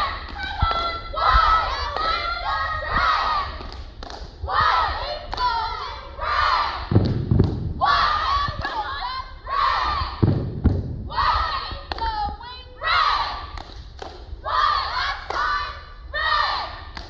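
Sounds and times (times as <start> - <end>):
cheerleaders chanting in unison: 0.0 - 7.2, 7.8 - 10.5, 11.1 - 13.8, 14.4 - 17.0.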